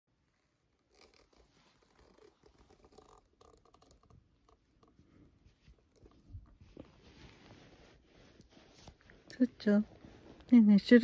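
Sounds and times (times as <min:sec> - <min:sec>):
hand stroking cat fur: 0:00.8 - 0:10.5.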